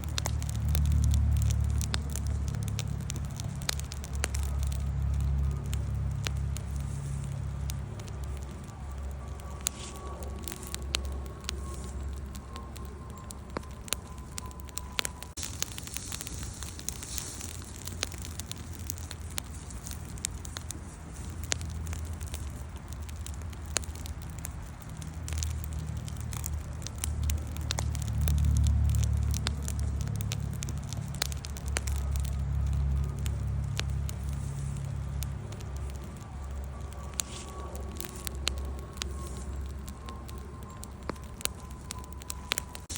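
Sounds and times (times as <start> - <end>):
campfire crackling and popping: 0.0 - 42.9
low rumble: 0.0 - 42.9.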